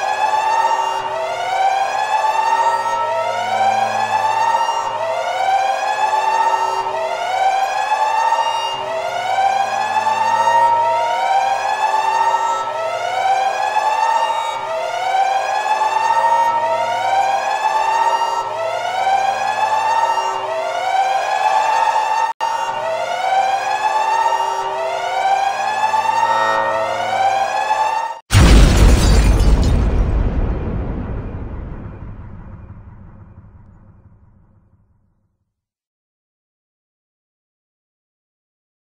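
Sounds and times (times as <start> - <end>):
wailing siren: 0.0 - 34.5.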